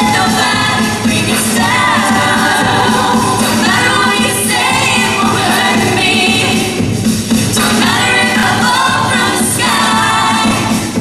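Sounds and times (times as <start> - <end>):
band accompaniment with beat: 0.0 - 11.0
group singing pop song: 0.0 - 11.0.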